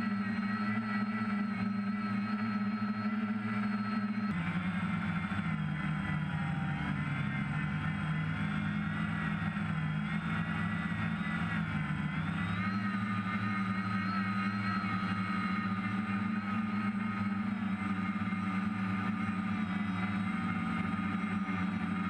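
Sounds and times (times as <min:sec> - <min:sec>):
drone motors and propellers whirring: 0:00.0 - 0:22.0.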